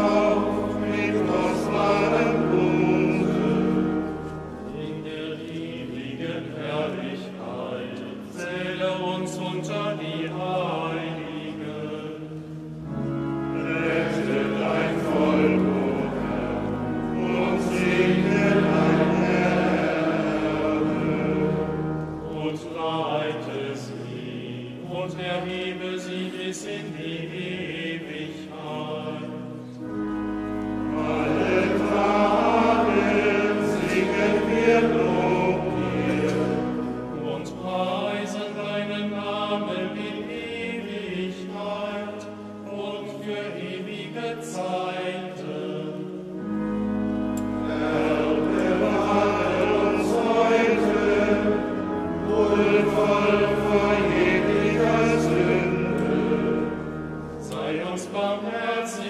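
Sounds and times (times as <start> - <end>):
choir singing a chant: 0.0 - 59.0.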